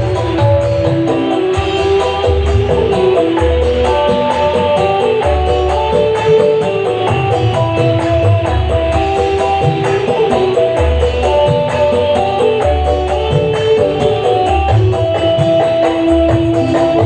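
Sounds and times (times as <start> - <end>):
heavy bass notes: 0.0 - 17.0
music over sound system: 0.0 - 17.0
ticking percussion beat: 0.0 - 17.0.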